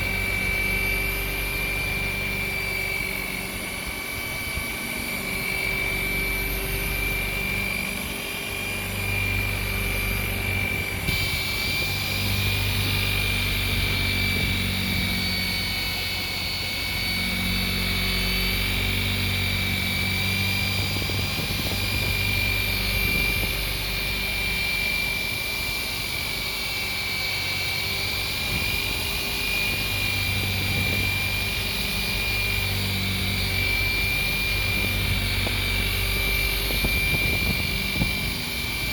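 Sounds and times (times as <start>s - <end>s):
buffing pad rumble: 0.0s - 25.9s, 26.6s - 38.9s
buffer motor whining: 0.0s - 38.9s.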